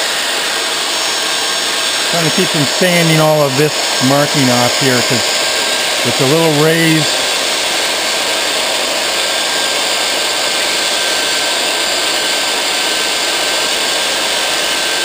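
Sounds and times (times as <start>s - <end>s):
belt sander grinding wood: 0.0s - 15.0s.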